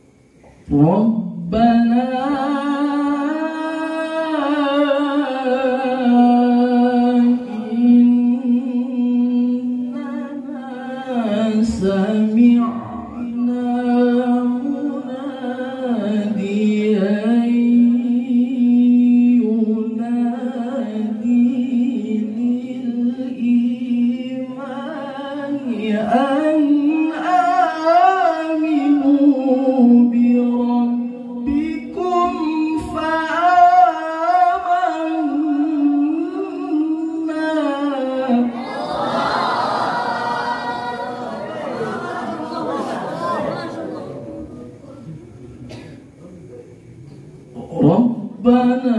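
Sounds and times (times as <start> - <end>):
man chanting melodically into microphone: 0.6 - 38.6, 47.5 - 48.9.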